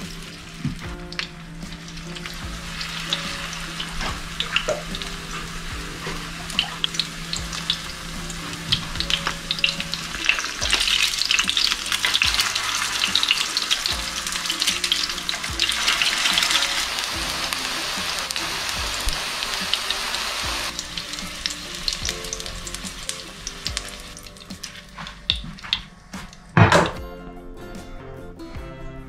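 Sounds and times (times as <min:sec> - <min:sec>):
fish cakes sizzling in a pan: 0:00.0 - 0:25.1.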